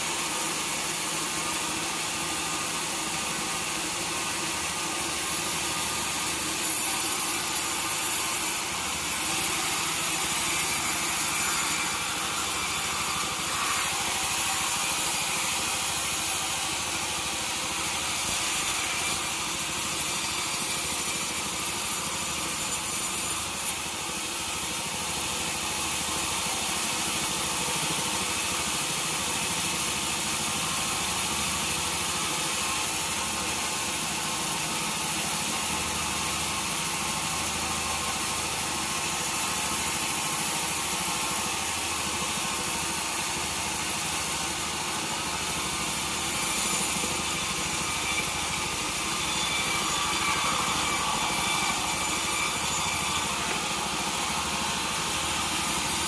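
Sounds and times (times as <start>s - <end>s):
sawmill saw cutting wood: 0.0s - 56.0s.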